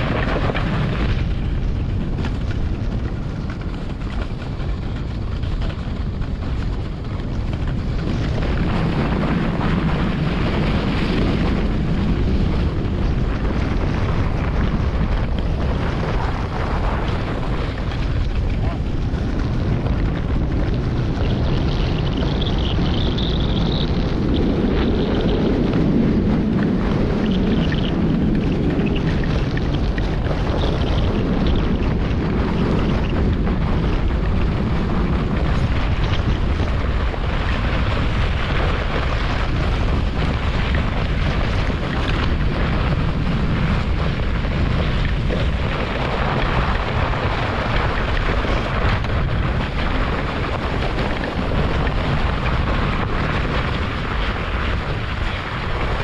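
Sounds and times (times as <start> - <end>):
sled runners rushing on snow: 0.0 - 56.0
wind buffeting microphone: 0.0 - 56.0.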